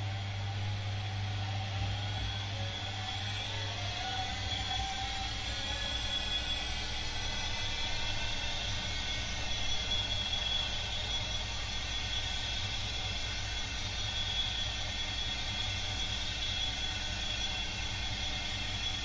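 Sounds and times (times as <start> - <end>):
high-pitched motor whine: 0.0 - 19.0
washing machine spin rumble: 0.0 - 19.0.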